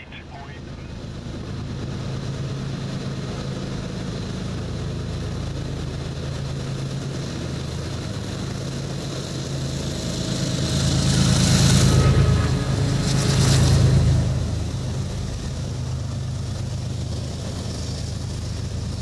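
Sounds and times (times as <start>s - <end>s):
diesel locomotives droning: 0.0s - 19.0s.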